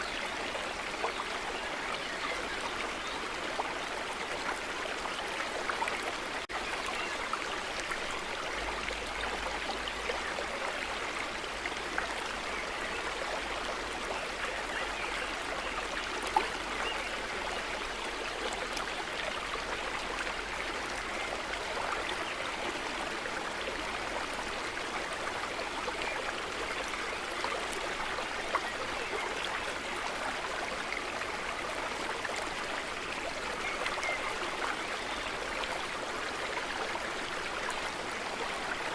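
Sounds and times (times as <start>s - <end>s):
brook flowing over stones: 0.0s - 38.9s.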